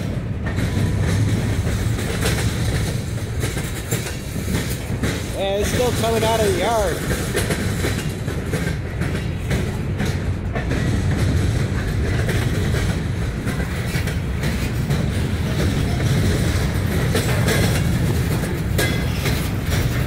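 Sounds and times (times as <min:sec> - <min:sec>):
freight train rolling past: 0:00.0 - 0:20.0
wheels clicking over track: 0:00.0 - 0:20.0.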